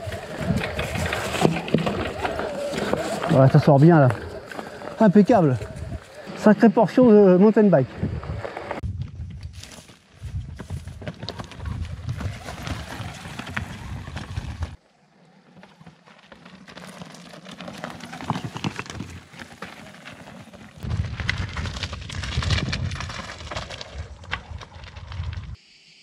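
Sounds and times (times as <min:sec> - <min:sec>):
tyres crunching on gravel: 0:00.0 - 0:08.8, 0:09.5 - 0:14.8, 0:15.4 - 0:25.6.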